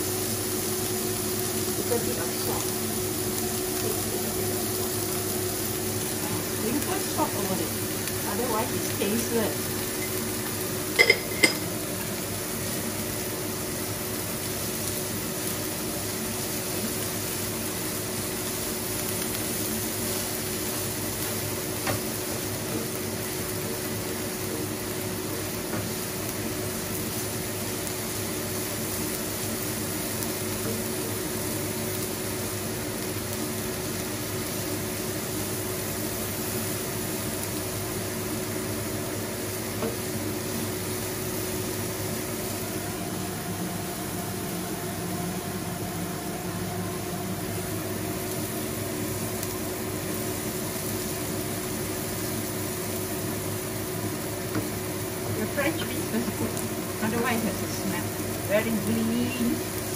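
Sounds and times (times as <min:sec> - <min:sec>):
vegetables frying in a pan: 0:00.0 - 0:59.9.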